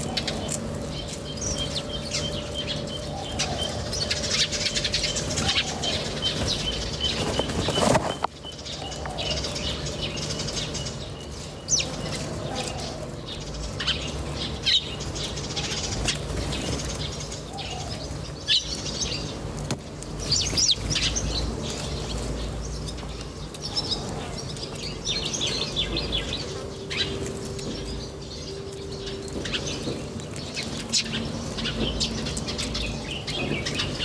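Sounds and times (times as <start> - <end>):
low steady hum: 0.0 - 34.0
small birds chirping: 0.0 - 34.0.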